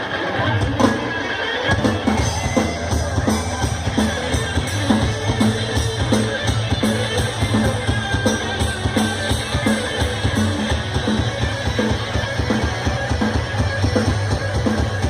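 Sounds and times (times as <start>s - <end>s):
bass guitar: 0.0s - 15.0s
electric guitars: 0.0s - 15.0s
drum kit beat: 1.7s - 15.0s.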